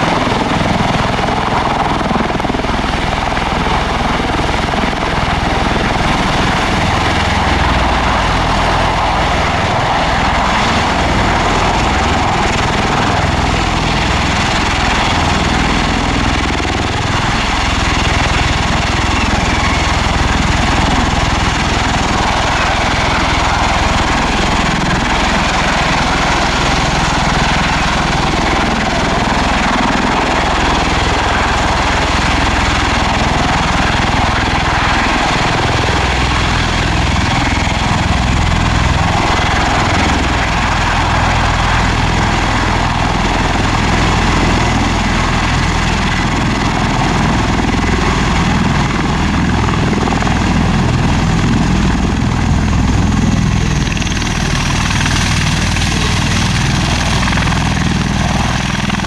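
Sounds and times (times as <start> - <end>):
tiltrotor aircraft rotors droning: 0.0 - 59.0.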